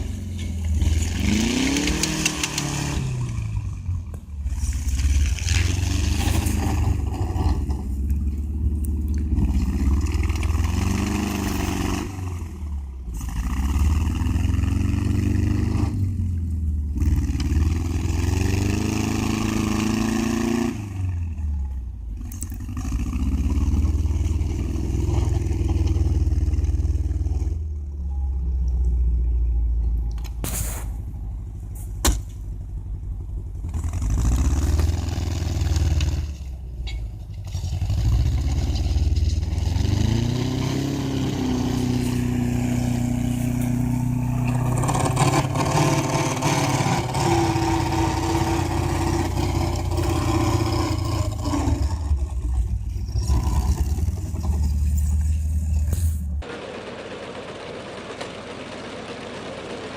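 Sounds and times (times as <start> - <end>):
engine revving: 0.0 - 29.3, 30.0 - 36.5, 37.4 - 59.9
heavy vehicle engines running: 0.0 - 59.9.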